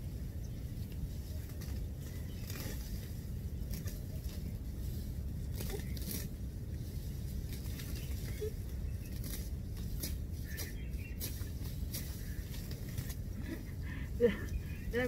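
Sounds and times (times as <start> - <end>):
dry grass rustling and crackling: 0.0 - 15.0
steady low rumble: 0.0 - 15.0.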